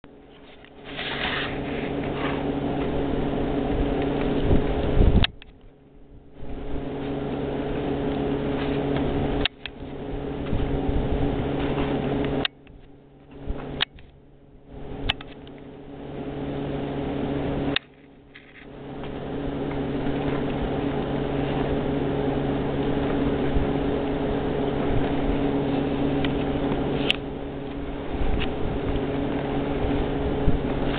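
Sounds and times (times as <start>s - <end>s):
motor humming: 0.1s - 30.9s.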